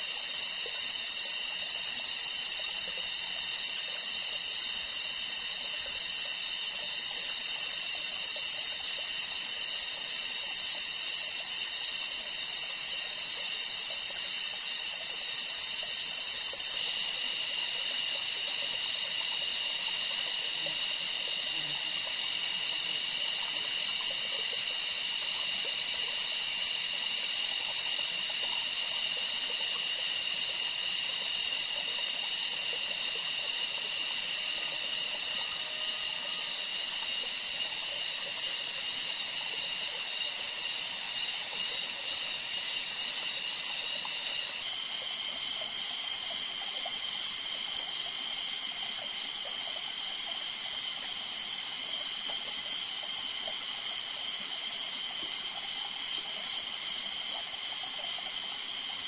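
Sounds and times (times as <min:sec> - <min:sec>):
high-pitched hiss: 0:11.6 - 0:59.0.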